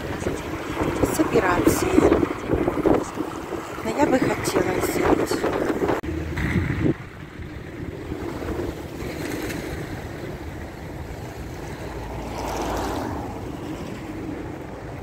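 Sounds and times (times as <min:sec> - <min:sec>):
distant traffic rumble: 0:00.0 - 0:15.0
wind noise on microphone: 0:00.0 - 0:15.0.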